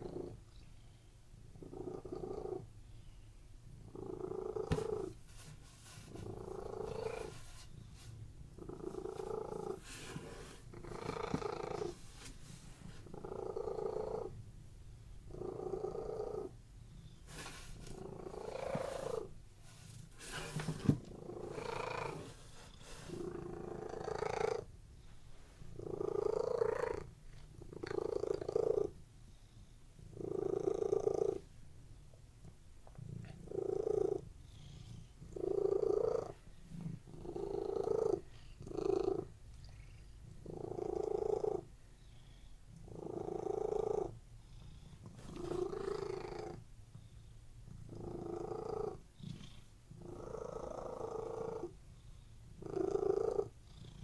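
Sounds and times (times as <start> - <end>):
cat purring: 0.0 - 14.5, 15.2 - 24.8, 25.6 - 54.0.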